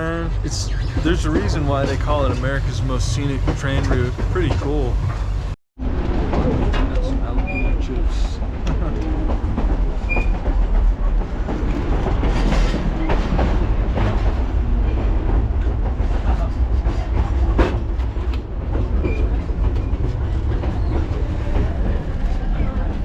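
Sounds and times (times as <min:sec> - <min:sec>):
train cars rumbling on track: 0:00.0 - 0:23.0.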